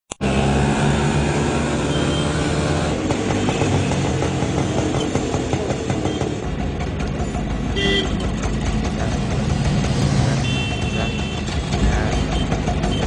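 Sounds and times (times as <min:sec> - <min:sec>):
road traffic engines: 0:00.1 - 0:13.0.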